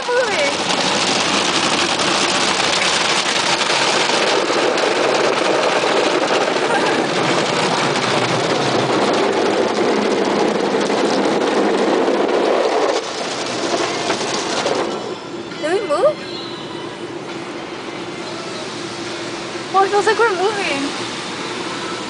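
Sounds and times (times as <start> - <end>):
car wash water spray and machinery: 0.0 - 15.4, 17.0 - 22.0.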